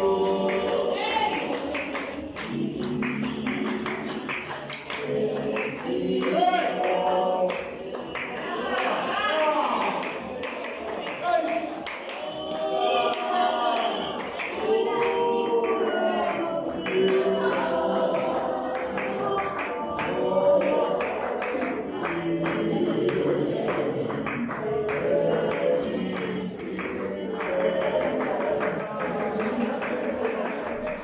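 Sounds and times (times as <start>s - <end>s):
choir singing gospel: 0.0s - 31.0s
hand-clapping in time: 0.0s - 31.0s.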